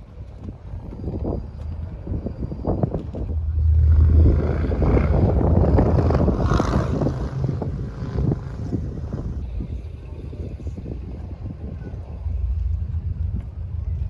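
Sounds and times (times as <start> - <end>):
vehicle engine rumbling: 0.0 - 14.0
wind noise on microphone: 0.0 - 14.0.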